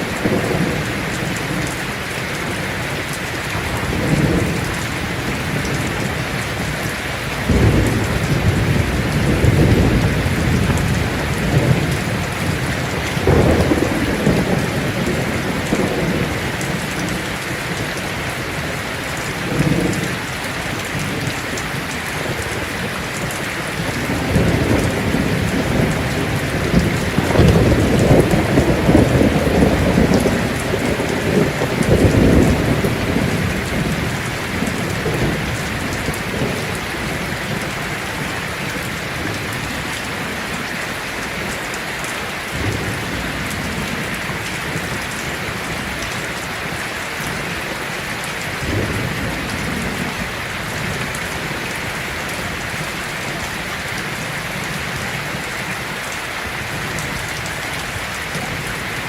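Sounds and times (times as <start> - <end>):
thunder rumbling: 0.0 - 40.8, 42.5 - 55.4
heavy rain on a tin roof: 0.0 - 59.0.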